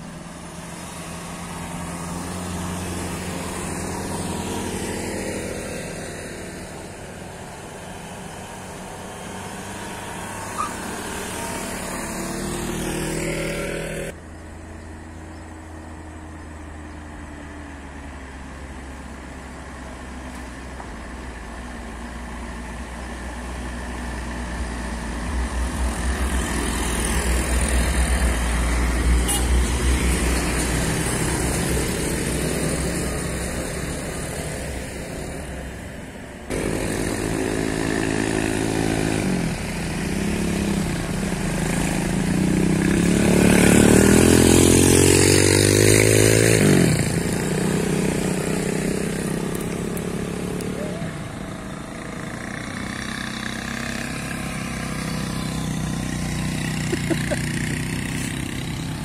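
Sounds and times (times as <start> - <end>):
car engine labouring uphill: 0.0 - 59.0
motorbike and scooter engines: 0.0 - 59.0.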